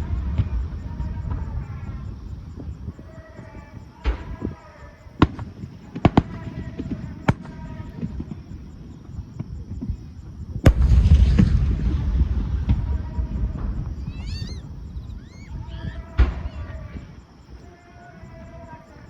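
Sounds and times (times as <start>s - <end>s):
fireworks bangs: 0.0s - 19.0s
rush of fireworks bursts: 0.0s - 19.0s.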